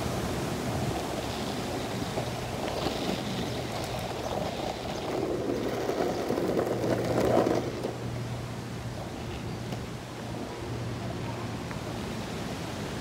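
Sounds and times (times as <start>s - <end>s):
skateboard wheels rolling on asphalt: 0.0s - 13.0s.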